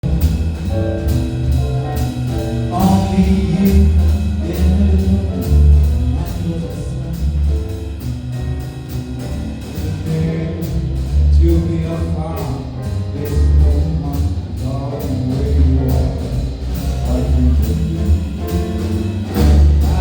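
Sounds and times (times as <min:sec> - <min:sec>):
bass line: 0:00.0 - 0:20.0
live band playing: 0:00.0 - 0:20.0
steady drum beat: 0:00.0 - 0:20.0.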